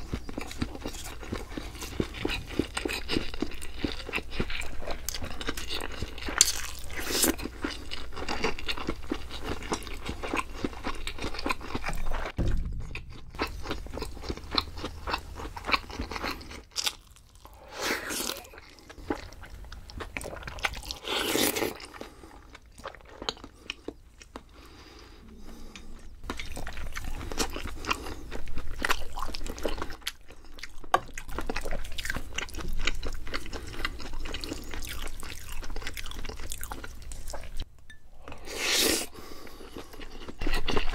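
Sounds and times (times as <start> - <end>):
close chewing and biting: 0.0 - 40.9.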